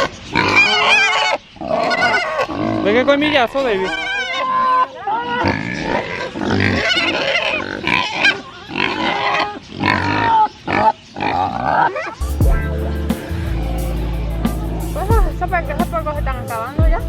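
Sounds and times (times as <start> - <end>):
pigs grunting and calling: 0.0 - 14.8.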